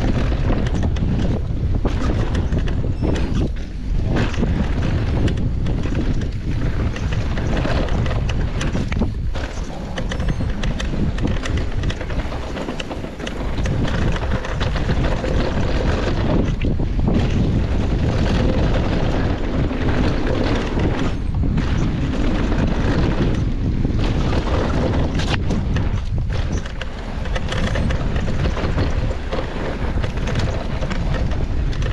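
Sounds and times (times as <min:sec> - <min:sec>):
bike clicks and rattles: 0:00.0 - 0:31.9
bike tyres rolling on dirt: 0:00.0 - 0:31.9
wind buffeting microphone: 0:00.0 - 0:31.9.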